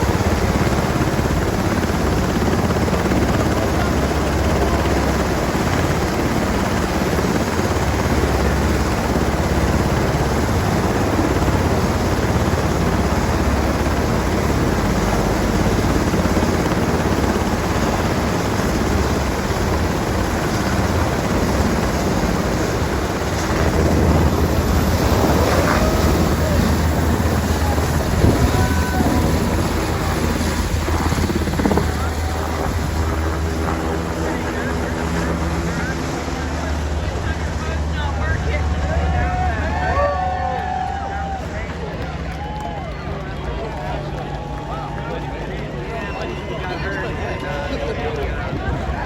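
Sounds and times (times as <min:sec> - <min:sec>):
helicopter rotor and engine: 0:00.0 - 0:49.0.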